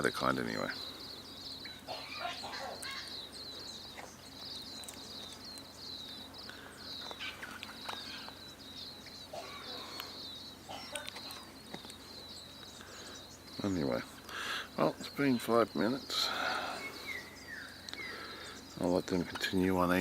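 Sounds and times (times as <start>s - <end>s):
birds short calls: 0.0s - 20.0s.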